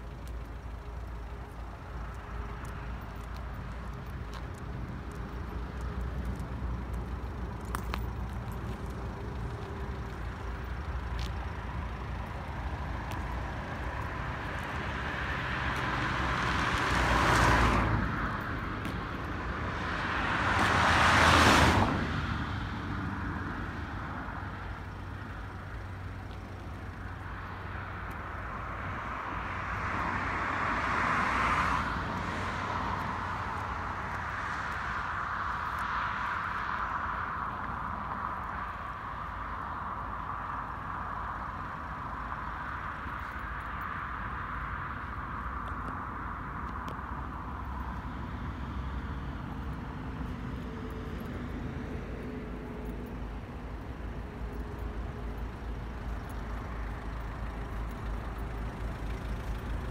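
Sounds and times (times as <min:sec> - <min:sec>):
cars passing on asphalt: 0:00.0 - 0:59.9.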